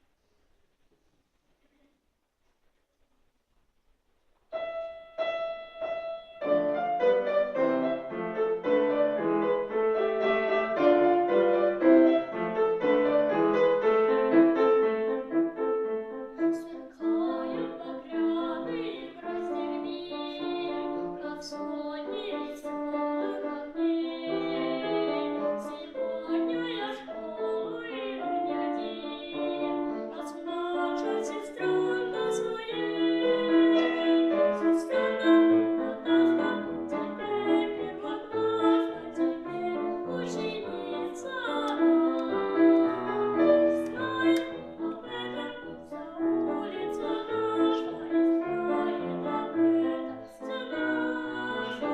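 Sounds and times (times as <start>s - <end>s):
piano accompaniment: 4.5s - 51.9s.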